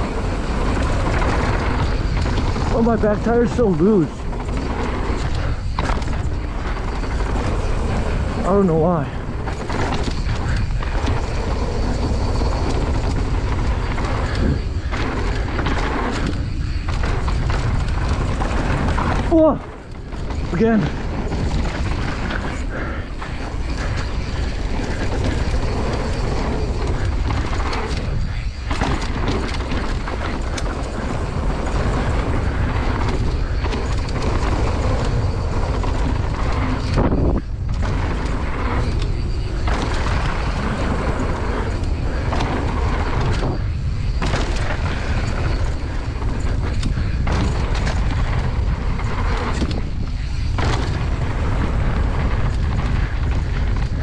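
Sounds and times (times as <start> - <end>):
bike tyres on dirt: 0.0 - 54.0
wind rumble on microphone: 0.0 - 54.0
bike knocking over rough ground: 0.2 - 54.0.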